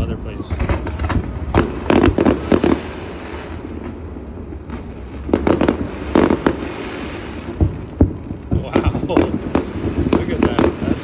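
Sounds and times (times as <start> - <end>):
fireworks bursting with sharp bangs: 0.0 - 11.0
low steady rumble: 0.0 - 11.0.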